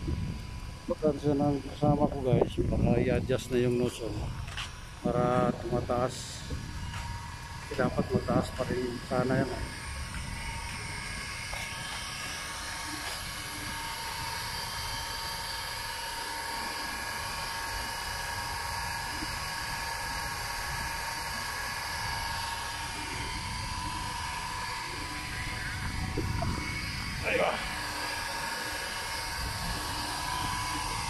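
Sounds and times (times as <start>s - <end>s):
fountain motor whine: 0.0s - 31.0s.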